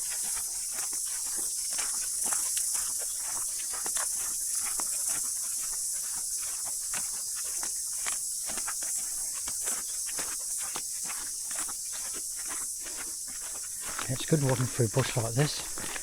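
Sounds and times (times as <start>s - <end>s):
cicadas chorus: 0.0s - 16.0s.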